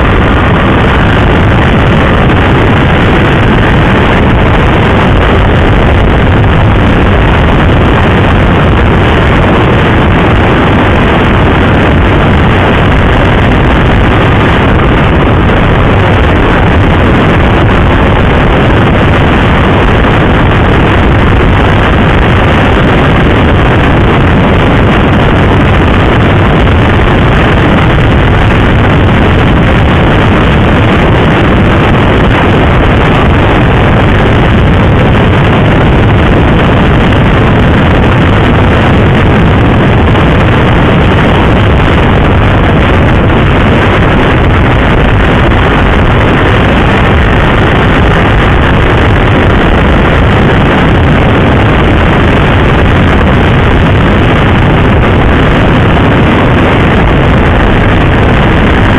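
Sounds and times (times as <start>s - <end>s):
wind rushing over microphone: 0.0s - 58.9s.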